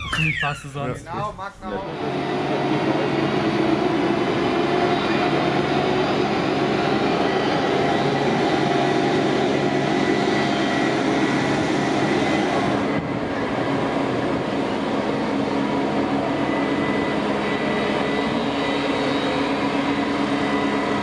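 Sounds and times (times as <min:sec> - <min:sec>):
fairground ride mechanical hum: 0:00.0 - 0:21.0.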